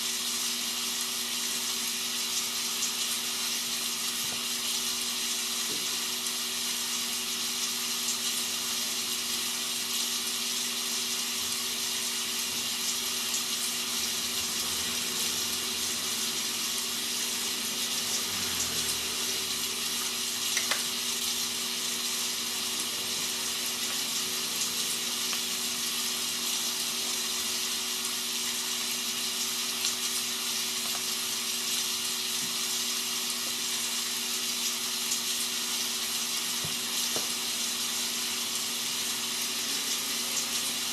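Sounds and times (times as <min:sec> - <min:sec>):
rain hiss: 0:00.0 - 0:40.9.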